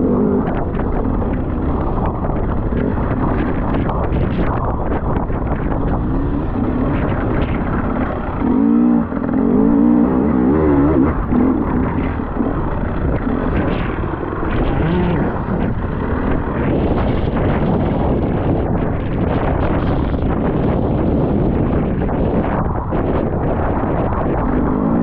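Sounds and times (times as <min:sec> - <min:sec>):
motorcycle engine revving: 0:00.0 - 0:25.0
wind buffeting microphone: 0:00.0 - 0:25.0.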